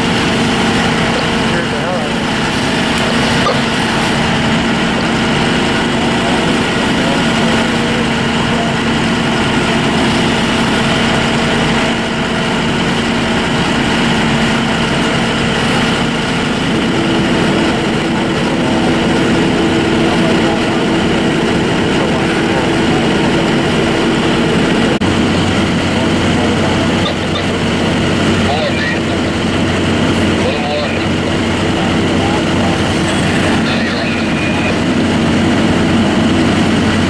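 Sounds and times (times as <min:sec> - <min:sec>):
fire truck engines droning: 0:00.0 - 0:37.0.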